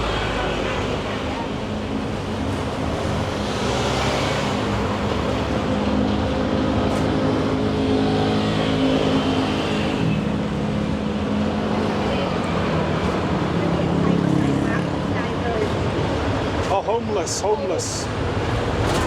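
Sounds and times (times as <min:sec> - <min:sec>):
traffic: 0:00.0 - 0:19.0.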